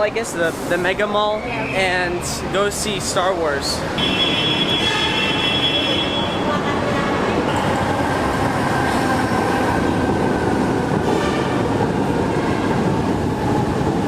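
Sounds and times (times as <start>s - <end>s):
metro train running: 0.0s - 14.0s.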